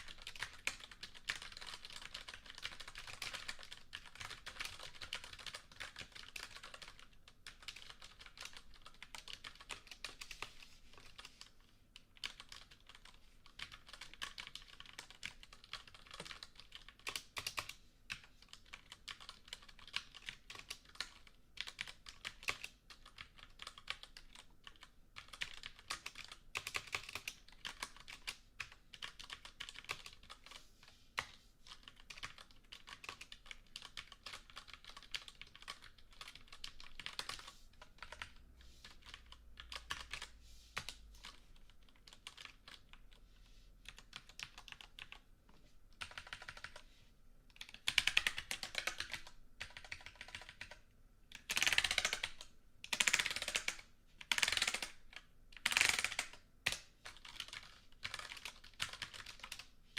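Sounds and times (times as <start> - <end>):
computer keyboard typing: 0.0 - 30.6, 31.2 - 43.2, 43.8 - 45.3, 46.0 - 46.9, 47.5 - 59.7.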